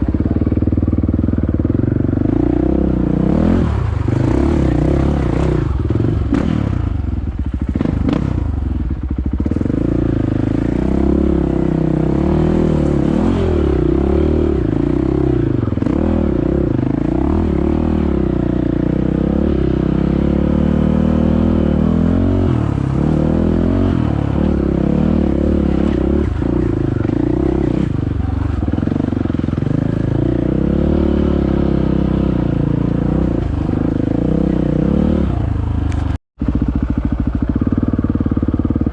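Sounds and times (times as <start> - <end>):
dirt bike engine: 0.0 - 38.9.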